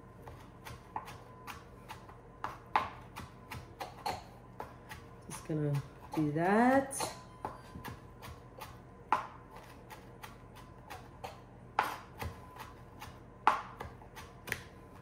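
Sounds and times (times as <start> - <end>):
knife chopping on cutting board: 0.2 - 15.0.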